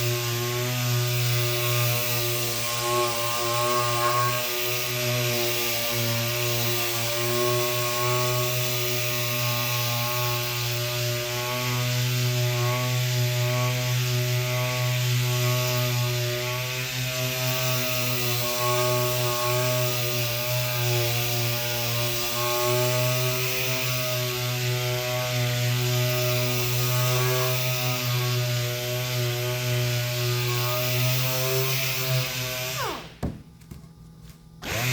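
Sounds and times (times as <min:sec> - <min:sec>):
electric power sander running: 0:00.0 - 0:33.8, 0:34.6 - 0:34.9.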